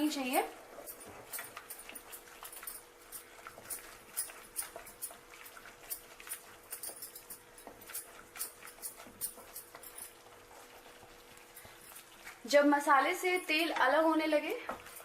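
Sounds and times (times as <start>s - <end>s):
masala frying in oil: 0.0s - 15.0s.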